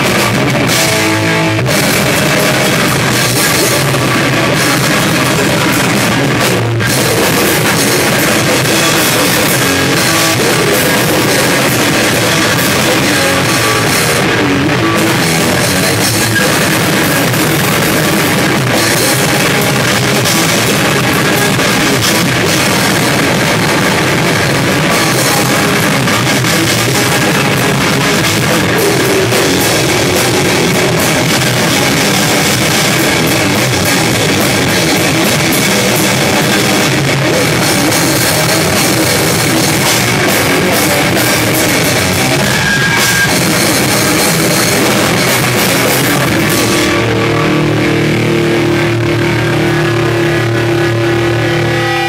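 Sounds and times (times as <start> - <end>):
drum kit with cymbals: 0.0 - 47.6
distorted electric guitar: 0.0 - 52.0.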